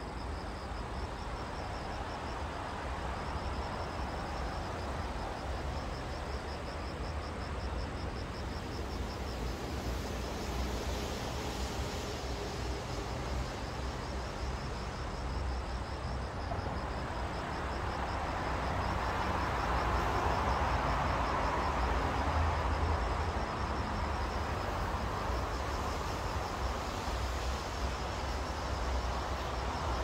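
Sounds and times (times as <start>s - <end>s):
broad rush of noise: 0.0s - 30.0s
crickets chirping: 0.0s - 30.0s.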